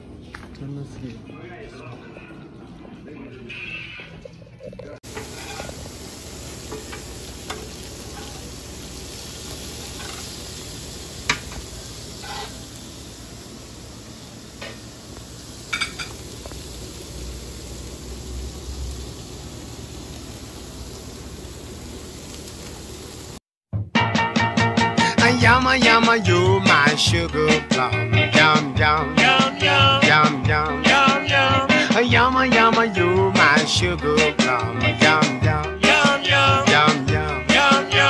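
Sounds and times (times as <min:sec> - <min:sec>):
patties sizzling on grill: 0:05.0 - 0:23.4, 0:25.2 - 0:38.0.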